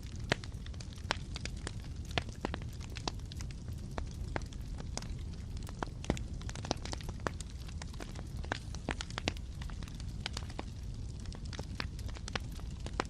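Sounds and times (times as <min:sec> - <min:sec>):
fire crackling and popping: 0:00.0 - 0:13.0
flames rumbling: 0:00.0 - 0:13.0.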